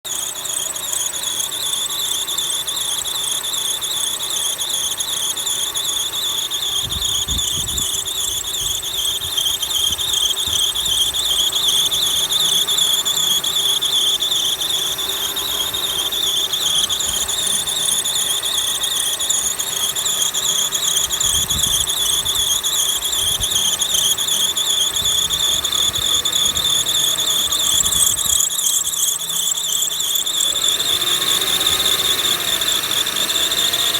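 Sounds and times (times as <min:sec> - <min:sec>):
drive belt whistle: 0:00.0 - 0:33.9
engine running: 0:00.0 - 0:33.9.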